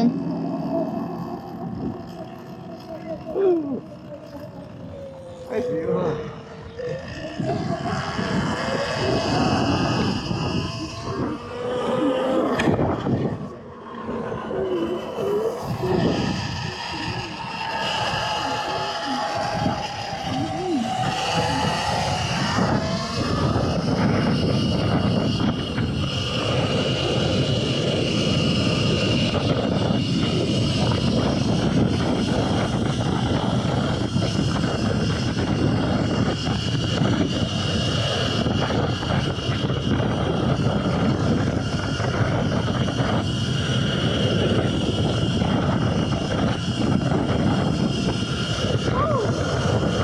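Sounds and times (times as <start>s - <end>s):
electric motor whine: 0.0s - 50.0s
wind rush over microphone: 0.0s - 50.0s.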